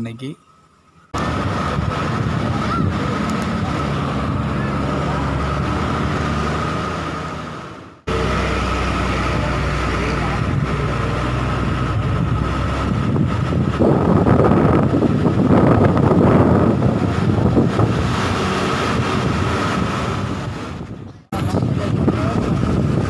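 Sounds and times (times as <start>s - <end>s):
road and wind noise: 0.0s - 23.0s
bus engine running: 0.9s - 23.0s.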